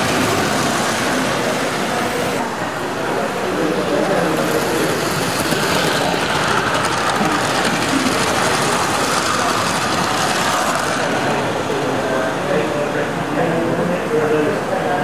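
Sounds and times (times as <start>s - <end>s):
model train wheels and motors rattling: 0.0s - 13.2s.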